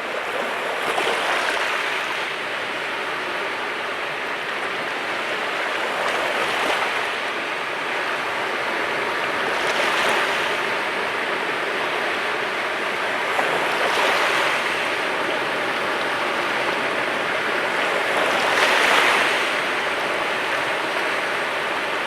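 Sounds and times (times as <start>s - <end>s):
sea waves washing on shore: 0.0s - 22.0s.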